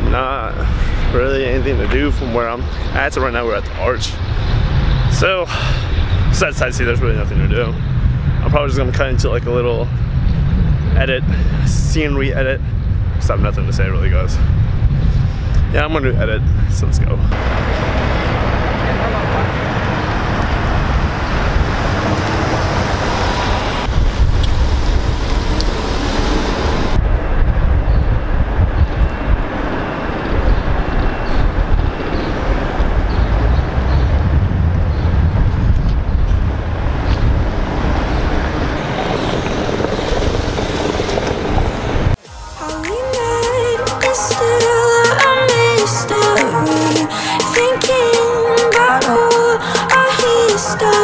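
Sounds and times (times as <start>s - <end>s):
wind rumbling on microphone: 0.0s - 42.2s
vehicle traffic: 0.0s - 51.0s.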